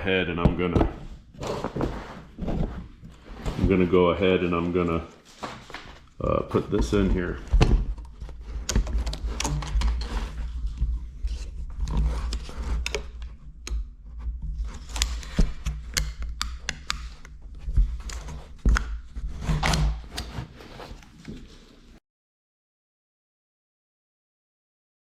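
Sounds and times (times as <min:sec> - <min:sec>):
rubbing and handling noise: 0:00.0 - 0:22.0.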